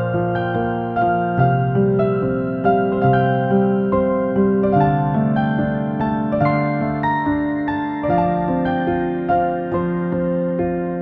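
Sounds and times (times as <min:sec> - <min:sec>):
gentle keyboard melody: 0:00.0 - 0:11.0.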